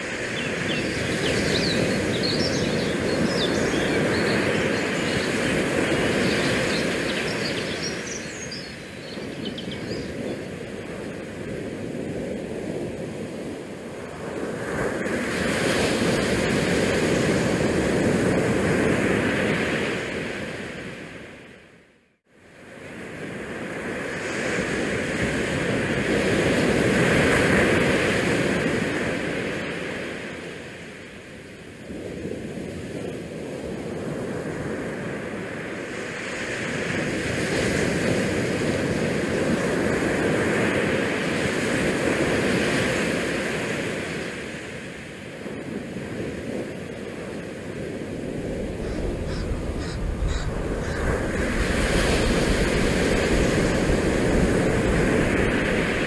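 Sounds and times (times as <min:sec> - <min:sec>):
wind on microphone: 0:00.0 - 0:21.3, 0:22.9 - 0:56.0.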